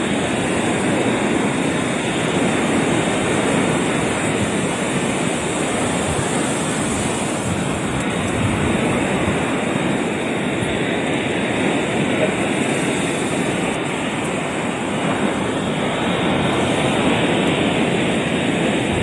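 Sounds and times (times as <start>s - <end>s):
ocean surf breaking on rocks: 0.0s - 19.0s.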